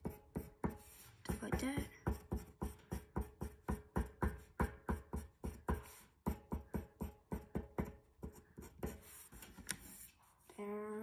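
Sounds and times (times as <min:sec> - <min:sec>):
pencil scratching on paper: 0:00.0 - 0:10.5.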